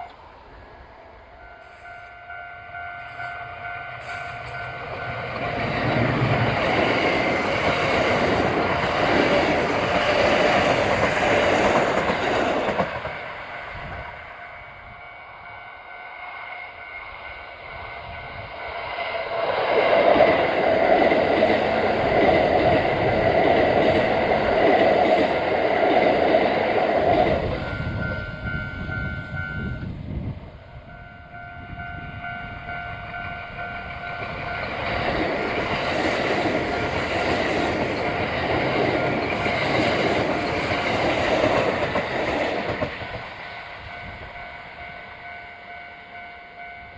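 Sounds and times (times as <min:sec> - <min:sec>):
electric train passing: 0:00.0 - 0:46.9
level crossing warning bell: 0:01.3 - 0:46.9.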